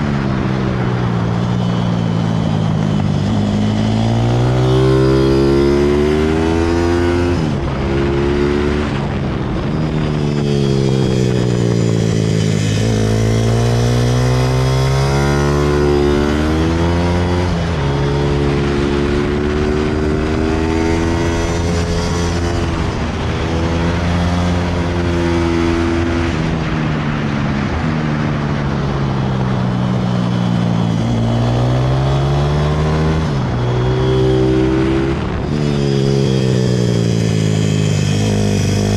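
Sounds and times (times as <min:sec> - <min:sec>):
motorbike engine revving: 0:00.0 - 0:27.8, 0:28.8 - 0:38.9.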